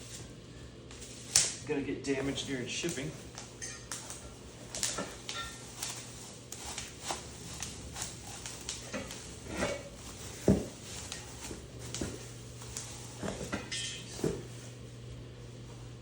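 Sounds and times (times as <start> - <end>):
bubble wrap rustling: 0.0 - 16.0.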